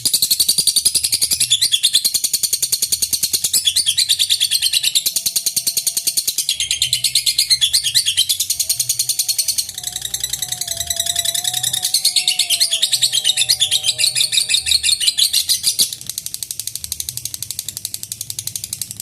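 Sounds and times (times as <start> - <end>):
lovebird rapid chattering song: 0.0 - 18.8.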